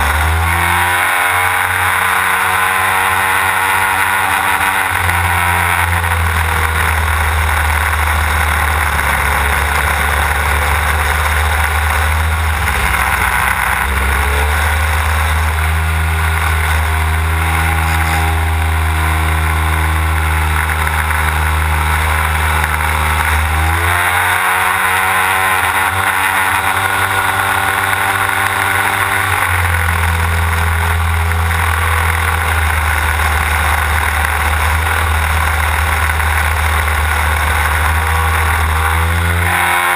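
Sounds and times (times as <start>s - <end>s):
model plane engine and propeller: 0.0s - 39.9s.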